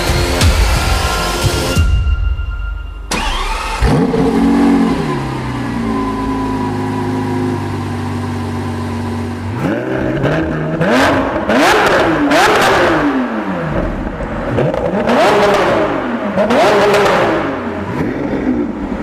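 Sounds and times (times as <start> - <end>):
car engine starting and idling: 3.0 - 19.0.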